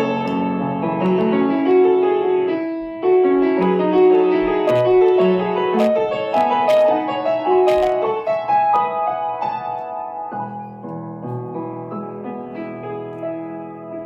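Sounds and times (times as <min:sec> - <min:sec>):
solo piano music: 0:00.0 - 0:14.0.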